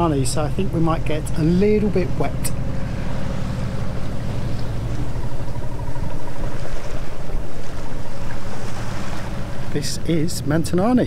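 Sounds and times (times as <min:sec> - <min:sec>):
boat engine running: 0:00.0 - 0:11.0
wind buffeting microphone: 0:00.0 - 0:11.0.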